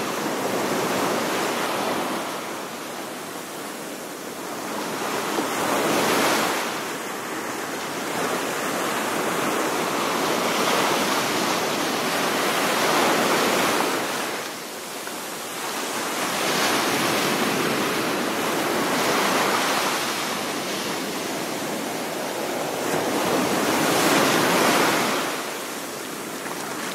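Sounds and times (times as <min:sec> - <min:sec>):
ocean waves breaking on shore: 0:00.0 - 0:26.9.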